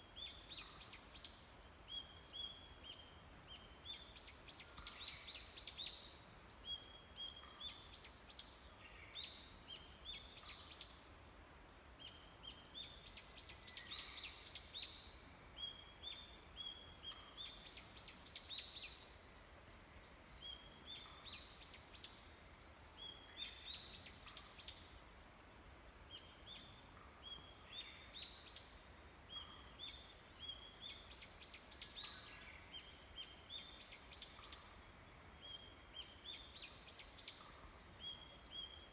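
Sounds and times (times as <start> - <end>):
faint background hiss: 0.0 - 38.9
songbirds chirping: 0.0 - 38.9.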